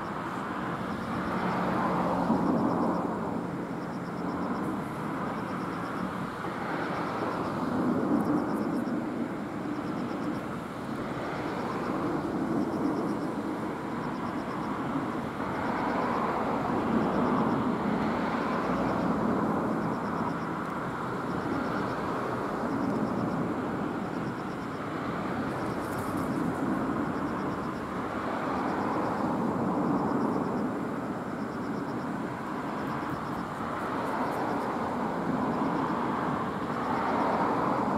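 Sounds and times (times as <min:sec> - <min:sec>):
distant road traffic: 0:00.0 - 0:37.9.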